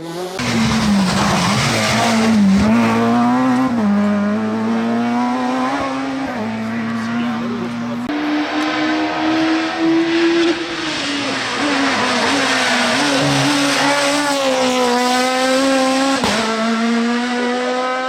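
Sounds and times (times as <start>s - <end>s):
rally car engine at high revs: 0.0s - 18.0s.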